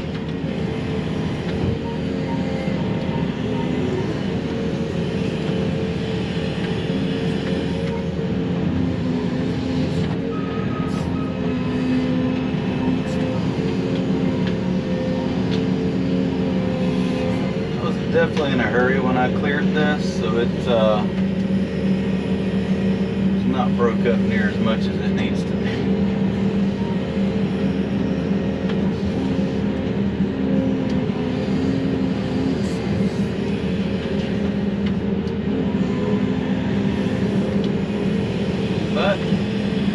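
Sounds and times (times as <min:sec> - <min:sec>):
excavator diesel engine running: 0:00.0 - 0:39.9
higher steady hum: 0:00.0 - 0:39.9.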